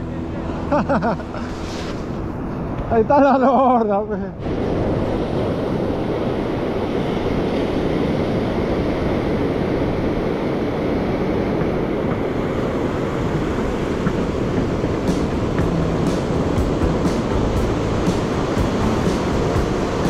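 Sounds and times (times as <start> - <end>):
ocean surf: 0.0 - 20.0
wind on microphone: 0.0 - 20.0.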